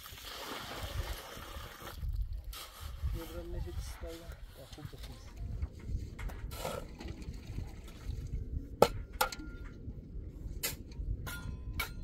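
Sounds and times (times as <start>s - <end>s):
steady low rumble: 2.1s - 12.0s.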